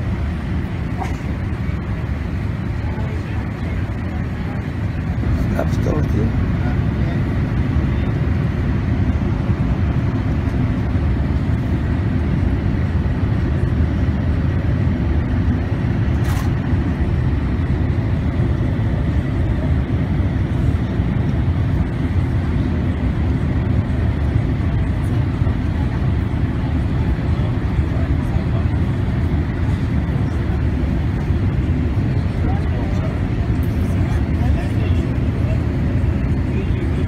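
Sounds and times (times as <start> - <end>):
engine and airflow rumble: 0.0 - 37.0.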